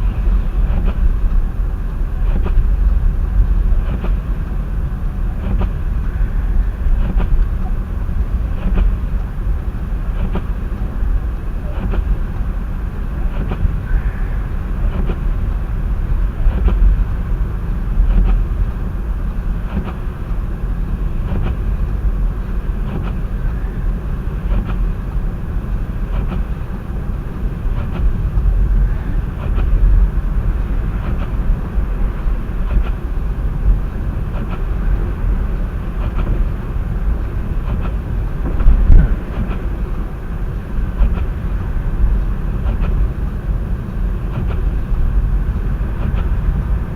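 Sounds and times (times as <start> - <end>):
moving vehicle rumble: 0.0 - 46.9.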